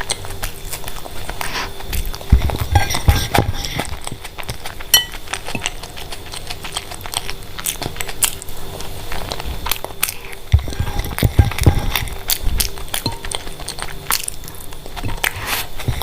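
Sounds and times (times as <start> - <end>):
chewing food close up: 0.0 - 16.0.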